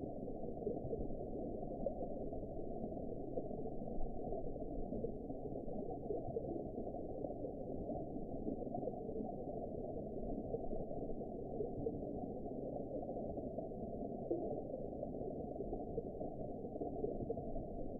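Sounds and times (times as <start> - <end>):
muffled underwater rumble: 0.0 - 17.9.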